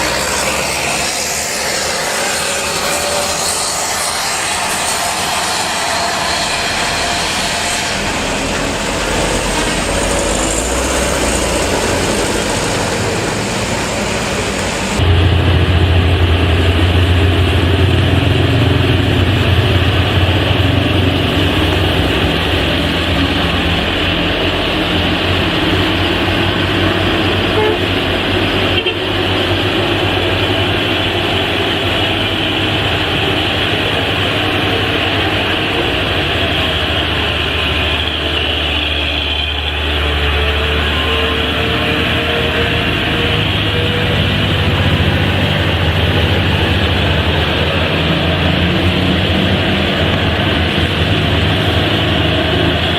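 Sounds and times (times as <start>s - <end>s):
road and wind noise: 0.0s - 52.9s
truck engine running: 0.0s - 52.9s.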